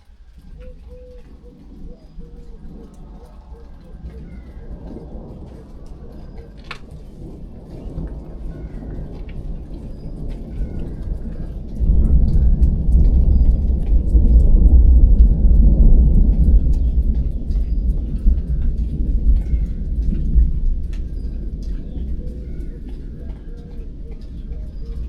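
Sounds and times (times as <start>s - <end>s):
rolling thunder: 0.0s - 25.0s.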